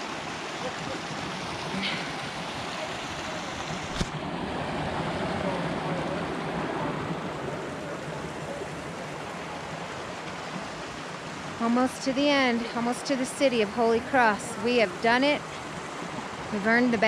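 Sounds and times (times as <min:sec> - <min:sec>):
creek running over boulders: 0:00.0 - 0:17.0.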